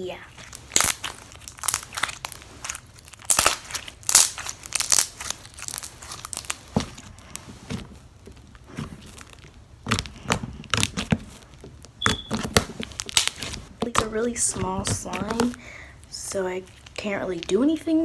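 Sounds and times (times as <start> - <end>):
slime squeezed crackling and popping: 0.2 - 18.0.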